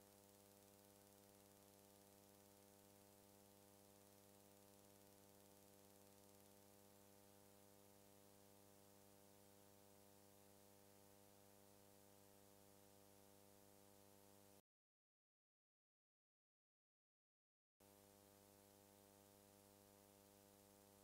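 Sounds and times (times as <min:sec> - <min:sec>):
faint electrical hum with hiss: 0:00.0 - 0:14.6, 0:17.8 - 0:21.0.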